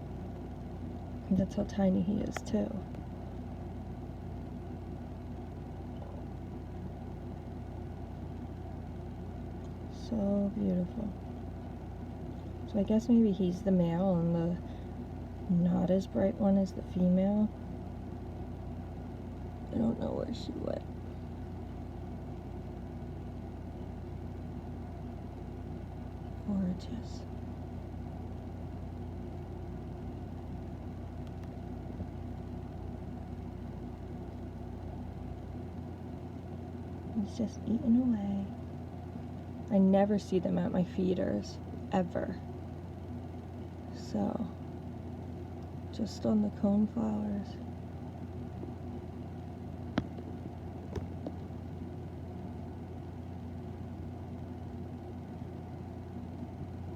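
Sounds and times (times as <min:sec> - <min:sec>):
low mechanical hum: 0:00.0 - 0:56.9.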